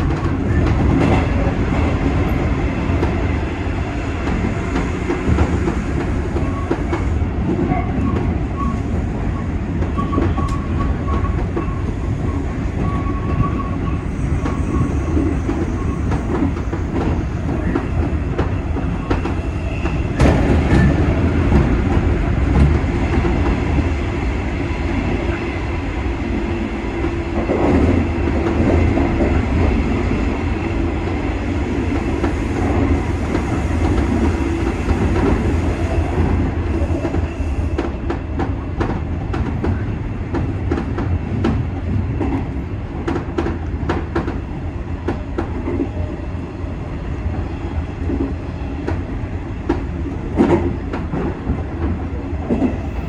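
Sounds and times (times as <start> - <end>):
clickety-clack of rail joints: 0.0 - 3.5, 4.2 - 25.5, 26.1 - 46.3, 47.2 - 53.0
wheels rumbling on rail: 0.0 - 53.0.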